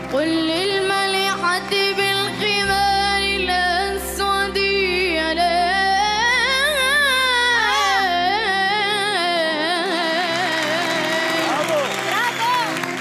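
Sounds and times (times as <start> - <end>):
instrumental accompaniment: 0.0 - 13.0
child singing melismatic melody: 0.1 - 12.9.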